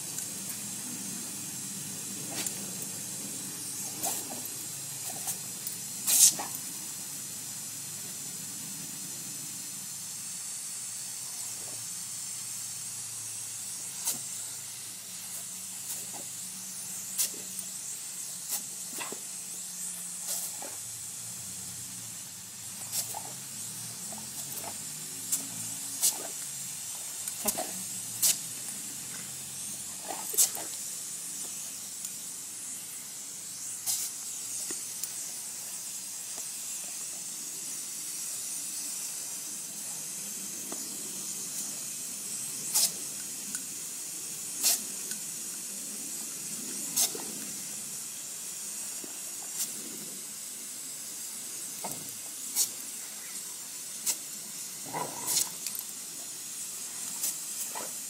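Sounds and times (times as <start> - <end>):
hose nozzle spraying water: 0.0 - 58.0.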